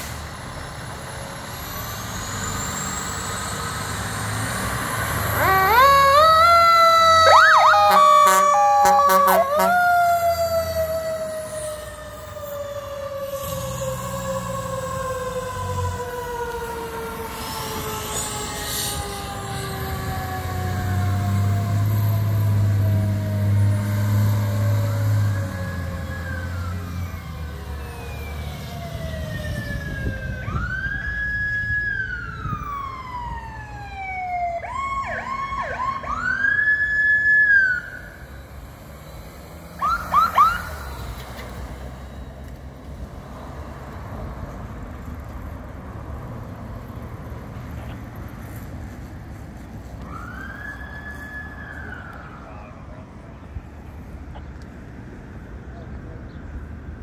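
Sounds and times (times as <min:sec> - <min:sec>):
emergency vehicle sirens: 0:00.0 - 0:57.0.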